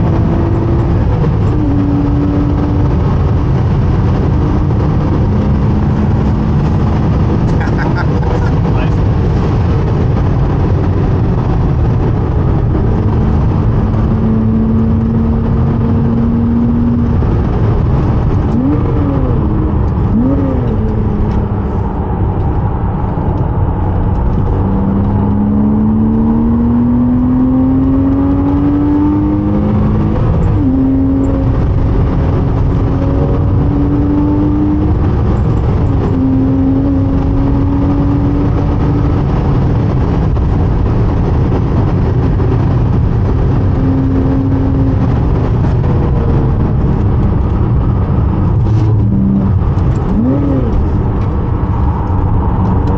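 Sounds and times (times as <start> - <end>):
car engine revving: 0.0 - 52.9
road and wind noise: 0.0 - 52.9.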